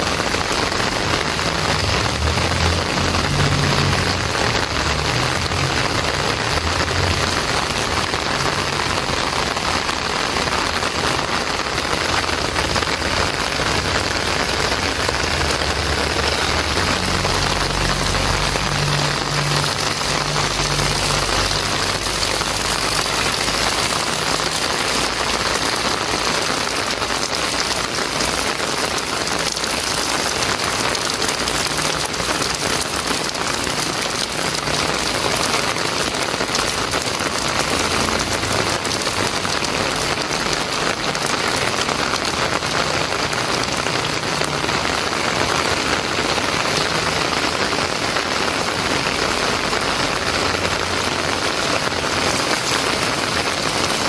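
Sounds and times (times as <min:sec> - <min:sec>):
heavy rain on pavement and roofs: 0:00.0 - 0:54.0.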